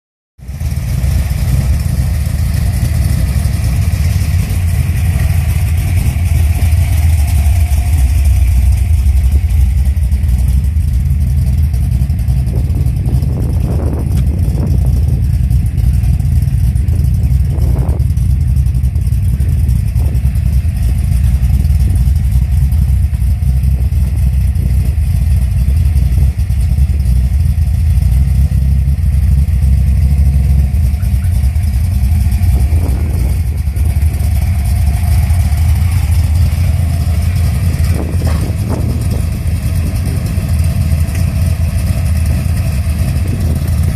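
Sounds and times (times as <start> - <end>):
car engine idling deeply: 0.4 - 43.9.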